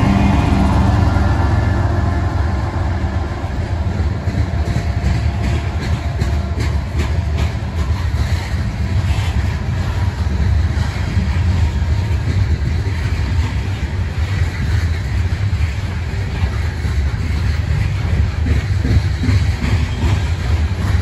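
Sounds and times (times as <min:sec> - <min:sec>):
freight cars rattling: 0:00.0 - 0:21.0
train wheels rumbling on rails: 0:00.0 - 0:21.0.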